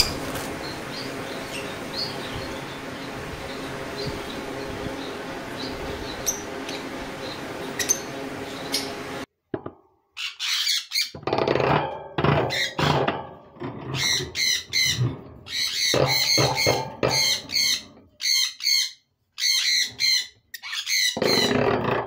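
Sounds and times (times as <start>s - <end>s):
lovebirds squawking and chirping: 0.0s - 9.3s, 10.2s - 11.2s, 13.8s - 21.8s.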